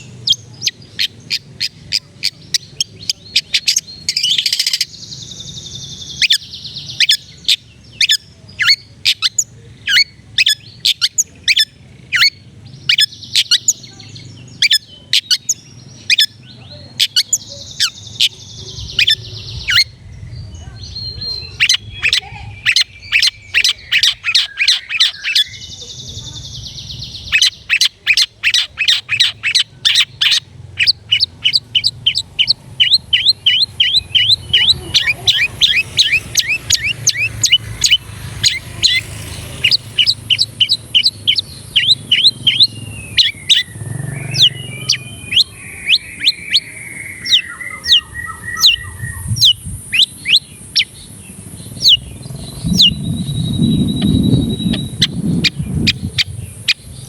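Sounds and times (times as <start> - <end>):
bird singing fast song: 0.0 - 57.0.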